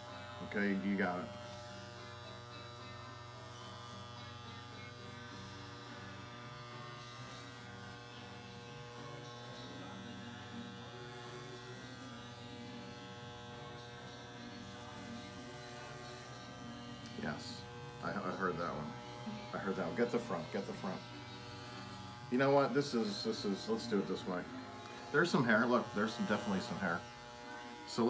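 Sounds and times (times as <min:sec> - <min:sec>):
electric hair clippers buzzing: 0:00.0 - 0:28.0.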